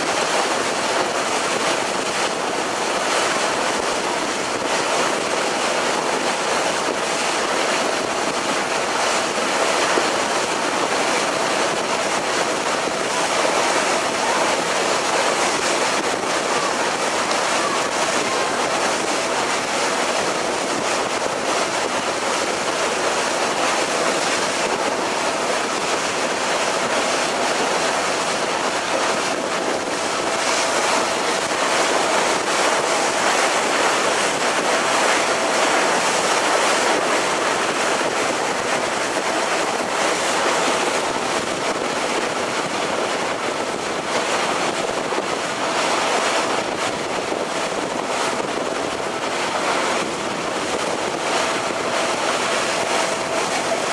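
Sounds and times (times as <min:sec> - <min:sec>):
water rushing: 0:00.0 - 0:53.9
wind: 0:00.0 - 0:53.9.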